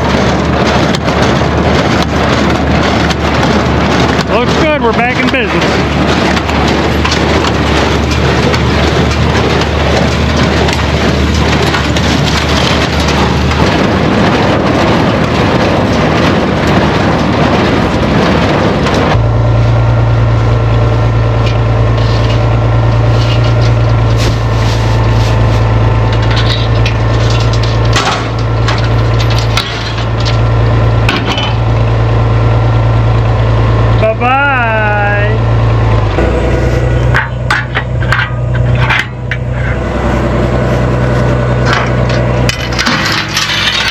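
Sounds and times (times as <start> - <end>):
hay baler crunching clatter: 0.0 - 43.9
tractor engine drone: 0.0 - 43.9.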